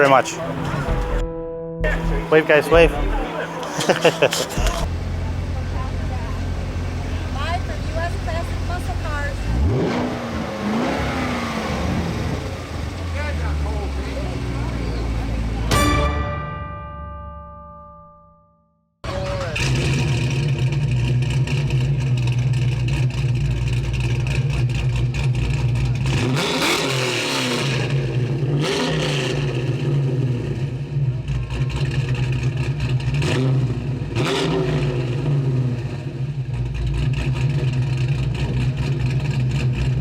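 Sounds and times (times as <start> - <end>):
engine idling and revving: 0.0 - 1.2, 1.9 - 15.7, 19.0 - 40.0.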